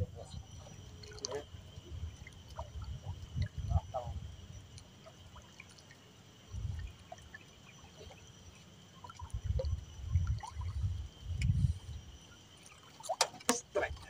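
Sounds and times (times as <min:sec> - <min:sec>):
water lapping and trickling: 0:00.0 - 0:14.0.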